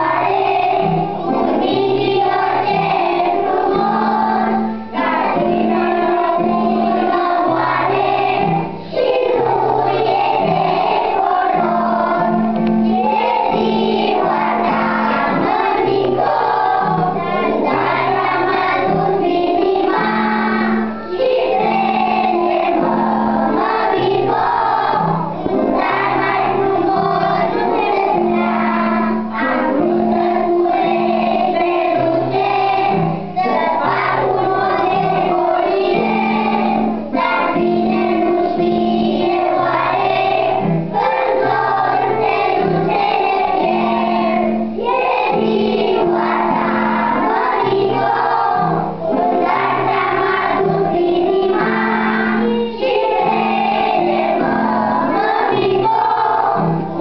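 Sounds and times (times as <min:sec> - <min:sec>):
children singing in unison: 0:00.0 - 0:57.0.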